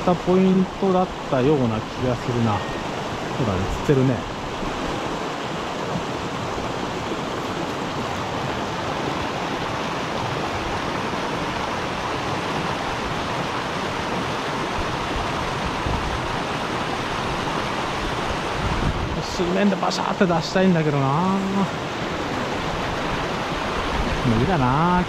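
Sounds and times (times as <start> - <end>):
stream water rushing over rocks: 0.0 - 25.0.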